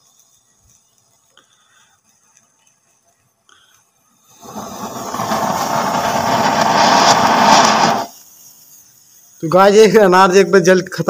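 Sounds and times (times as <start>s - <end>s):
firework spraying sparks with hiss: 0.0s - 11.0s.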